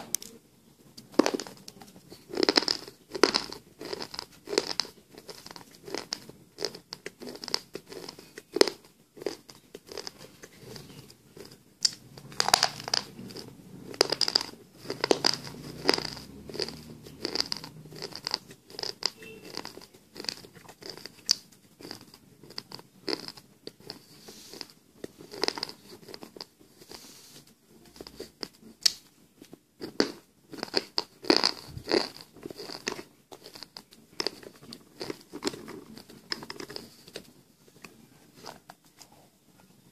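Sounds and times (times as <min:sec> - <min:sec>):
person crunching slate pencil: 0:01.1 - 0:27.1, 0:29.8 - 0:37.0.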